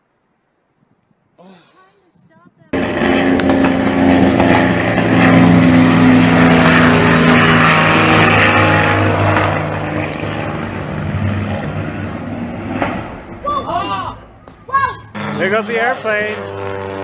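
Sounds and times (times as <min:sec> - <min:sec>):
propeller aircraft engine drone: 0:02.7 - 0:17.0.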